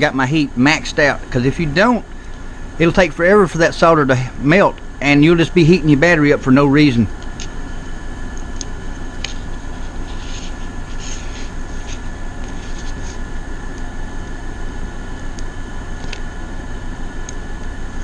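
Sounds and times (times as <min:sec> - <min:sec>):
air conditioners droning: 0:00.0 - 0:18.0.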